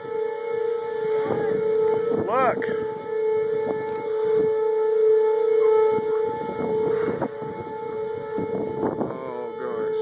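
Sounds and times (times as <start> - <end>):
warning siren steady tone: 0.0 - 10.0.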